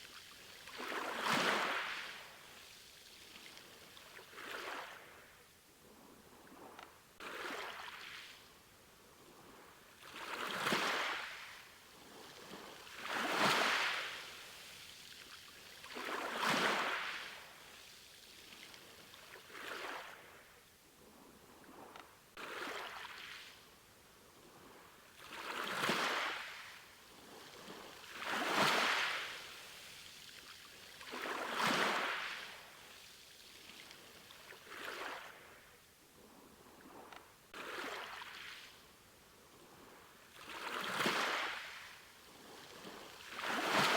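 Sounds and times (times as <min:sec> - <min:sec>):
small sea waves washing in: 0:00.4 - 0:05.4, 0:09.5 - 0:23.8, 0:24.4 - 0:43.9.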